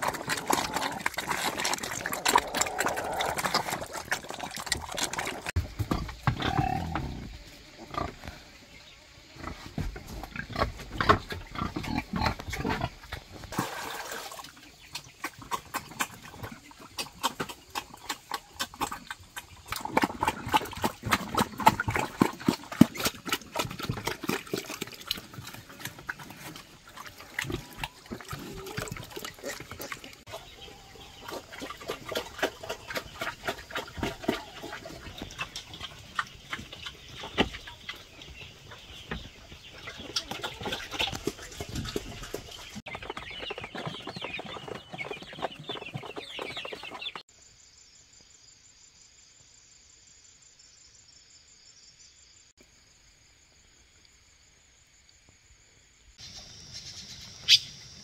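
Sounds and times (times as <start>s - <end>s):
pigs grunting and snuffling: 0.0s - 47.2s.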